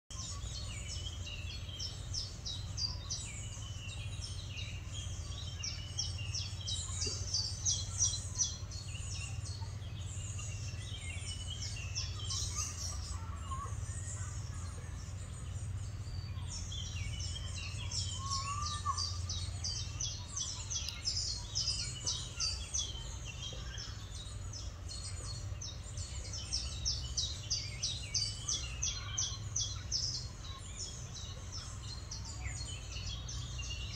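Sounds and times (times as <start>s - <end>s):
songbirds singing: 0.1s - 33.9s
low background rumble: 0.2s - 33.9s.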